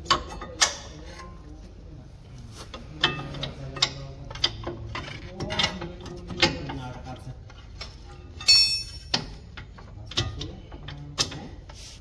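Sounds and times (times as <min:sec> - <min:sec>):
metal clicks and clanks: 0:00.0 - 0:01.4, 0:02.7 - 0:11.7.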